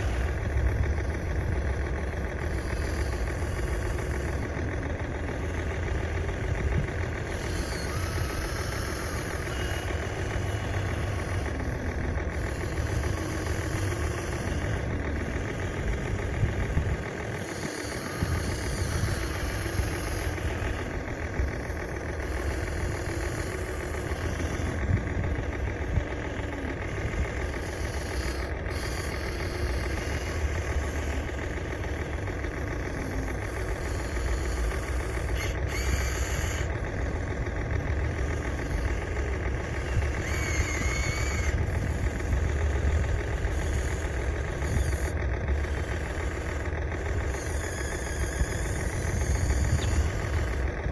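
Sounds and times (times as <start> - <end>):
model vehicle engine running: 0.0 - 50.9.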